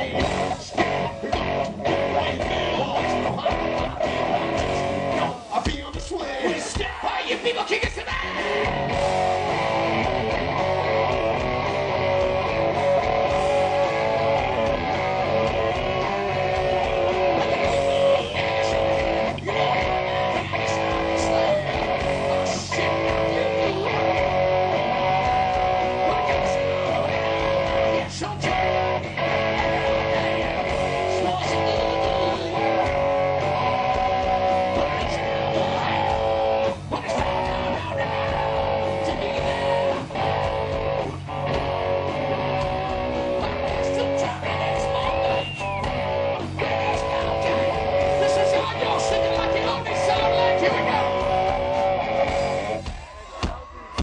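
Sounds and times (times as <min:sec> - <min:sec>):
electric guitar: 0:00.0 - 0:05.6, 0:06.3 - 0:54.0
bass guitar: 0:00.0 - 0:54.0.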